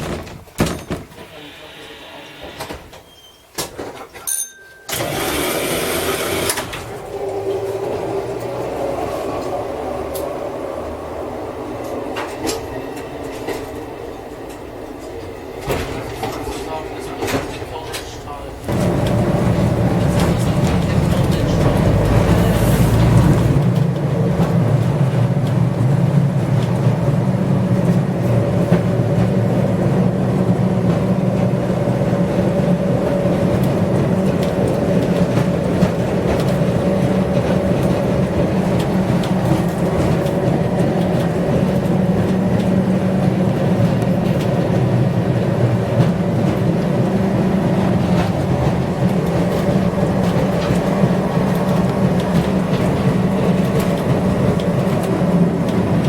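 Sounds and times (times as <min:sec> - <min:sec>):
wheels clicking over rails: 0:02.6 - 0:56.0
electric tram humming: 0:04.9 - 0:56.0.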